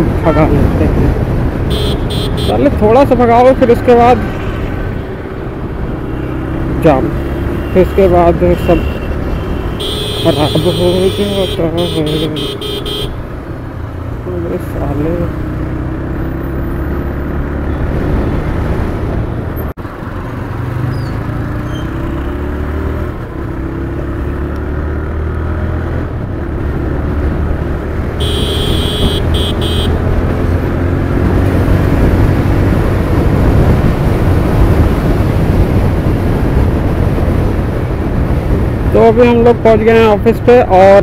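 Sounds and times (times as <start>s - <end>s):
road and wind noise: 0.0s - 41.0s
motorcycle engine revving: 0.6s - 39.1s.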